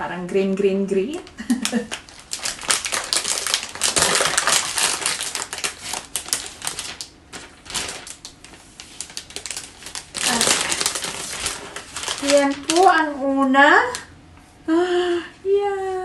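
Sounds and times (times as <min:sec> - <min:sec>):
plastic sleeve crinkling: 0:01.1 - 0:14.1.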